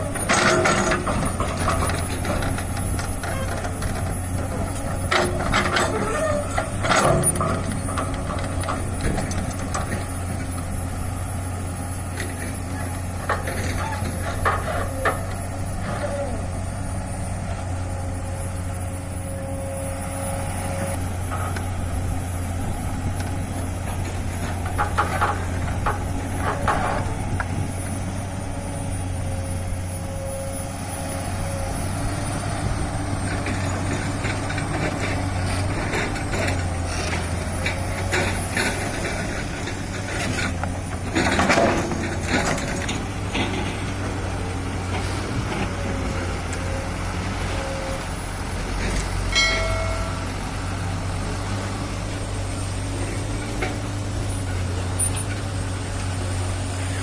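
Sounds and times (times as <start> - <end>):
diesel excavator running: 0.0 - 57.0.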